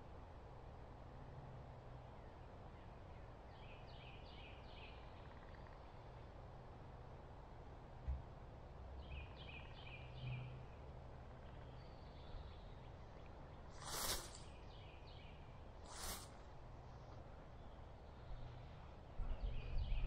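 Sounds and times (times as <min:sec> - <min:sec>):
woodland ambience: 0:00.1 - 0:20.0.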